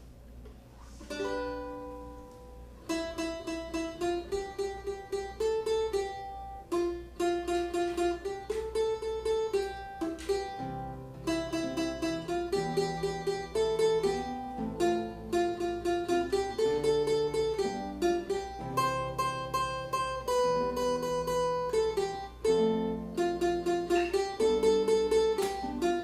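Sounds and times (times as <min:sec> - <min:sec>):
small guitar strummed and picked: 0:01.1 - 0:26.0.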